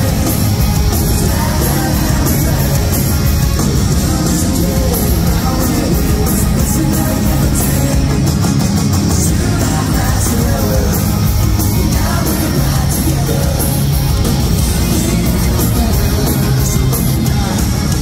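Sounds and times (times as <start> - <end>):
live rock band playing: 0.0 - 18.0
person singing lead vocal: 0.0 - 18.0.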